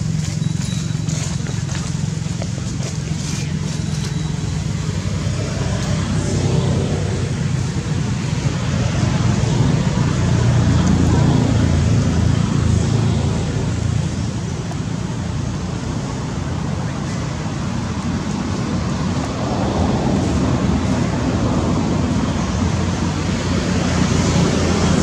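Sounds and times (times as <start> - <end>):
low rumbling background noise: 0.0 - 25.0.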